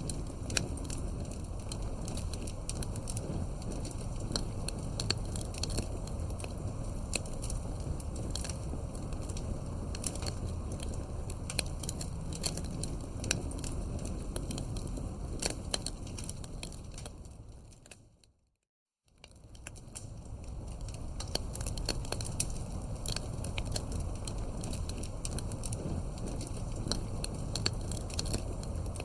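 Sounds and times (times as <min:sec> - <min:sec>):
campfire crackling: 0:00.0 - 0:18.2, 0:19.2 - 0:29.0.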